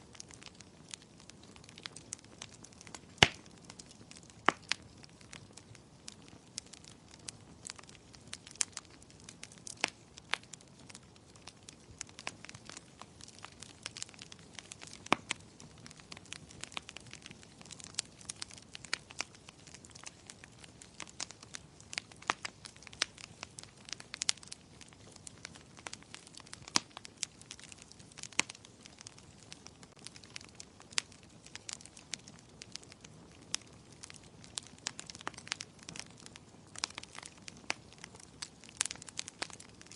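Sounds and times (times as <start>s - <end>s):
low hiss of burning: 0.0s - 39.9s
wood fire crackling: 0.0s - 39.9s.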